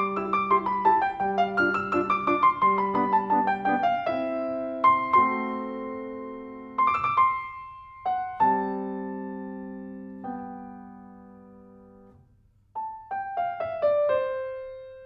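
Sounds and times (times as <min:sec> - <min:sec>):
piano music: 0:00.0 - 0:12.2, 0:12.8 - 0:15.0.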